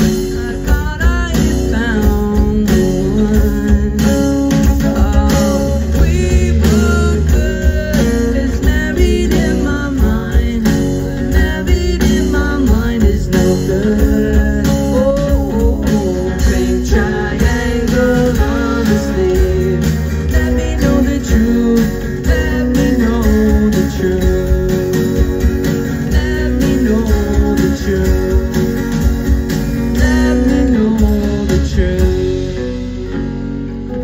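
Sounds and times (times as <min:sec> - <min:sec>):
man singing: 0:00.0 - 0:29.2, 0:29.8 - 0:33.2
acoustic guitar: 0:00.0 - 0:34.0
bass guitar: 0:00.0 - 0:34.0.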